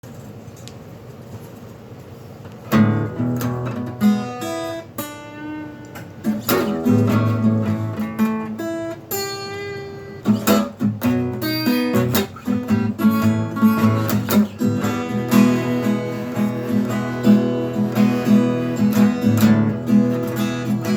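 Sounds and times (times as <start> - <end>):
acoustic guitar strumming: 2.7 - 20.9.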